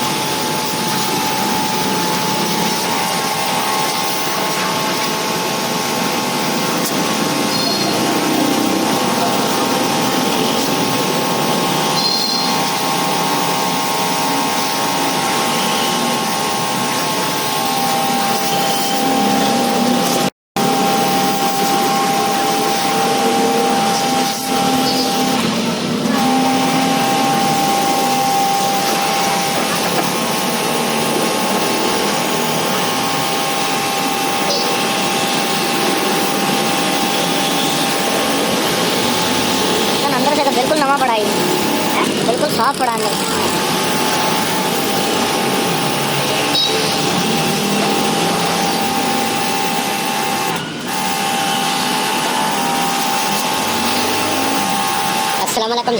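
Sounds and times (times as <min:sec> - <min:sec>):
pressure washer motor whine: 0:00.0 - 0:55.9.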